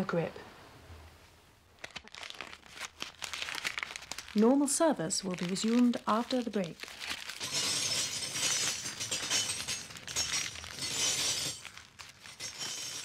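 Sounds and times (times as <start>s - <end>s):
crackling: 1.7s - 13.0s.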